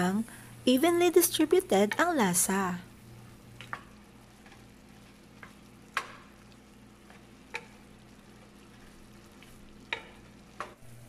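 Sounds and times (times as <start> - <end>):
pork sizzling in a pan: 0.7 - 11.0.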